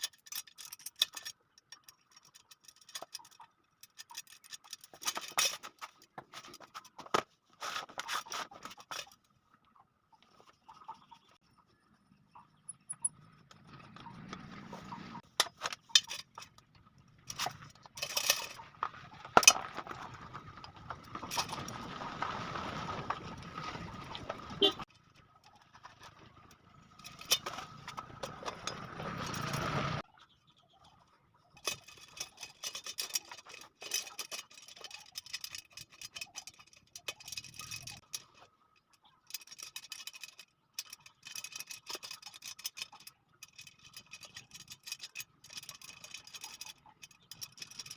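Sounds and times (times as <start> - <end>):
metallic clicks of wire spokes: 0.0 - 7.2, 12.6 - 21.9, 24.2 - 30.0, 31.5 - 47.9.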